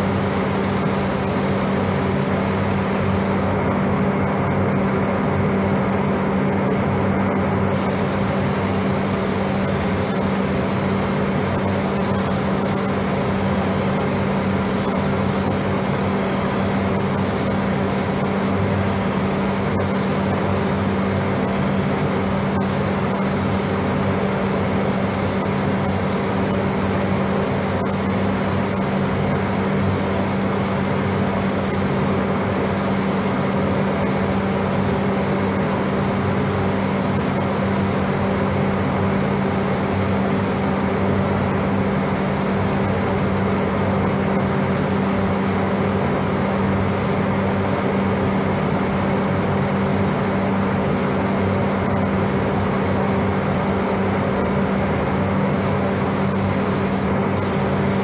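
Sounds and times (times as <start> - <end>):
ventilation fans humming: 0.0 - 58.0.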